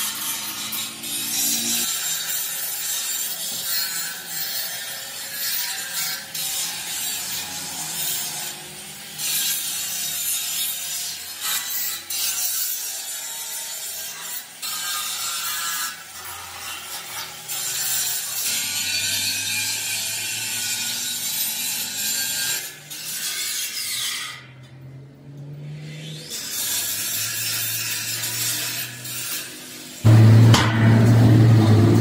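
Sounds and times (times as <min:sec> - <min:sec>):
angle grinder grinding steel: 0:00.0 - 0:32.0.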